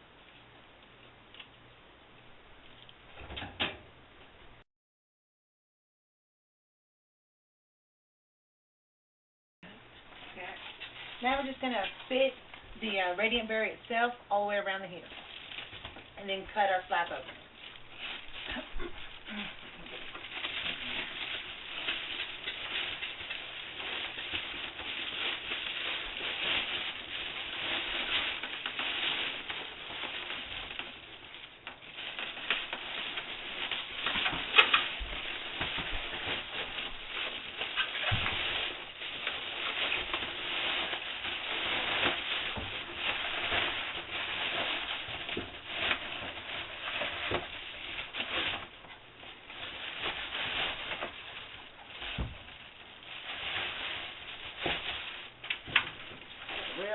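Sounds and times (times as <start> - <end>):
foil sheet crinkling: 10.1 - 56.9.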